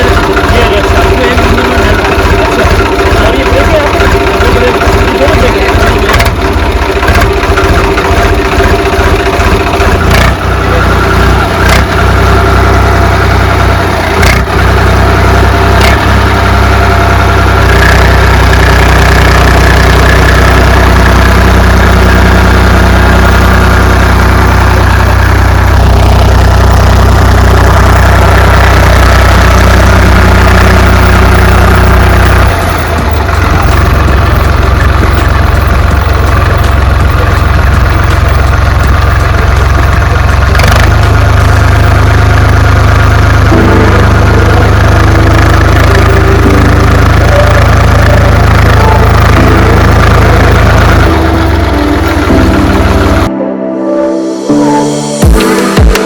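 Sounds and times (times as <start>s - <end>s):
tractor engine running: 0.0s - 53.4s, 55.1s - 56.0s.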